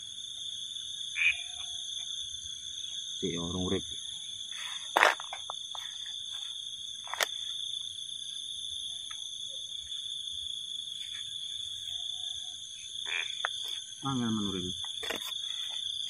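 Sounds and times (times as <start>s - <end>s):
high-pitched insect chirring: 0.5s - 16.0s.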